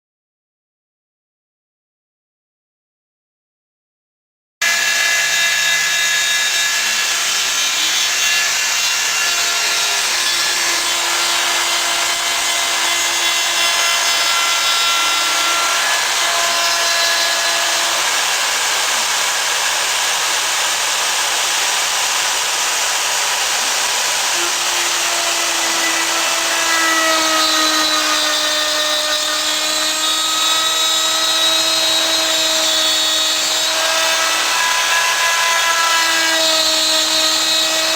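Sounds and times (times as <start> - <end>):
cnc router whining: 4.6 - 37.9.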